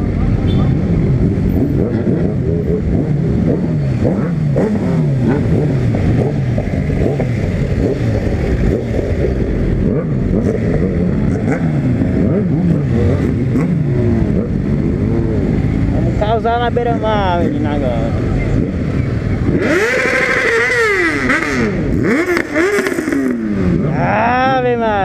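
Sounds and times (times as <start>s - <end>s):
motorcycle engine revving: 0.0s - 25.0s
other motorcycle engines running: 0.0s - 25.0s.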